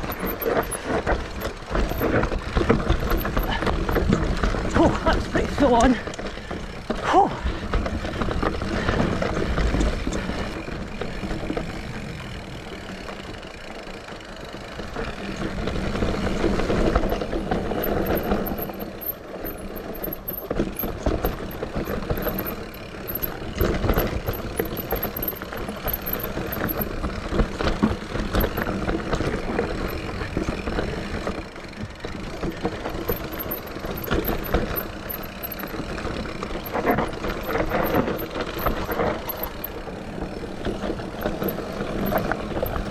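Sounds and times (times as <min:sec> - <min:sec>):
bike rattling and knocking: 0:00.0 - 0:42.9
tyres rumbling on dirt: 0:00.0 - 0:42.9.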